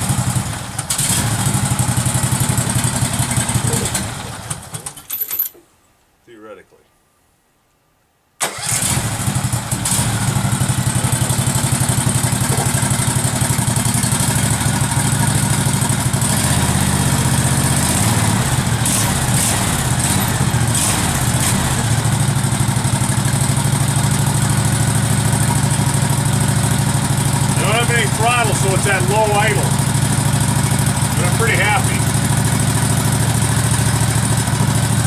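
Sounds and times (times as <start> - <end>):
tractor engine starting and idling: 0.0 - 5.2, 8.4 - 35.0.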